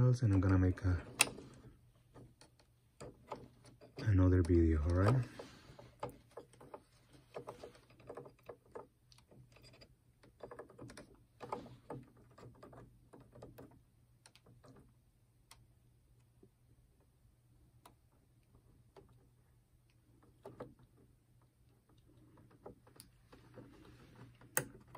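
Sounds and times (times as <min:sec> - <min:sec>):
fingers clicking on plastic mechanism: 0:00.0 - 0:16.3, 0:17.7 - 0:24.9.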